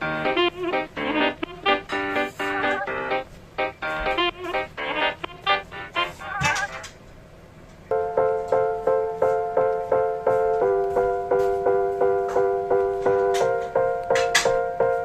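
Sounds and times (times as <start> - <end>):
keyboard playing repeated chords: 0.0 - 6.7, 7.9 - 15.0.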